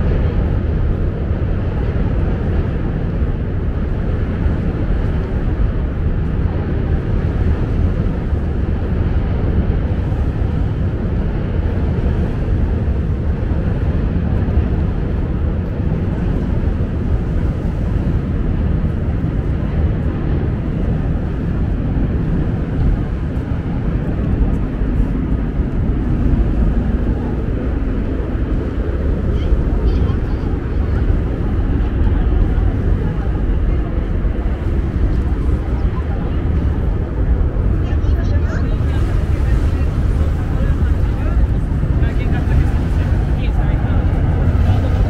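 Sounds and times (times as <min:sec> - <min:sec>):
low city background rumble: 0:00.0 - 0:45.0.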